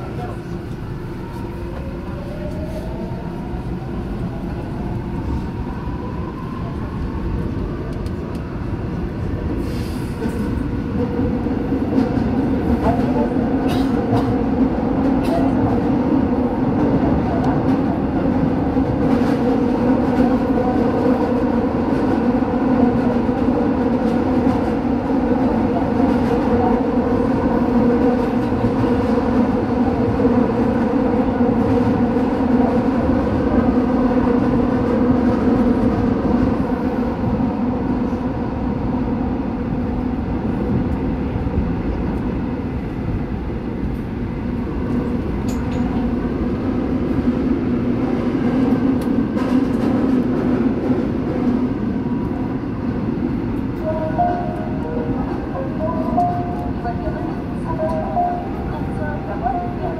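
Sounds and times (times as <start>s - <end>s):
subway train rumbling in tunnel: 0.0s - 59.9s.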